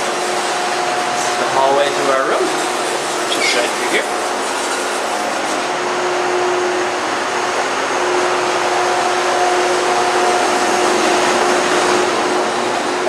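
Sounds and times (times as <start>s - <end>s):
ship ventilation rushing: 0.0s - 13.0s.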